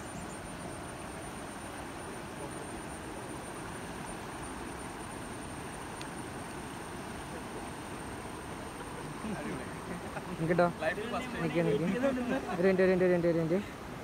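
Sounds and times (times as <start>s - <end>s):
stream rapids rushing: 0.0s - 14.0s.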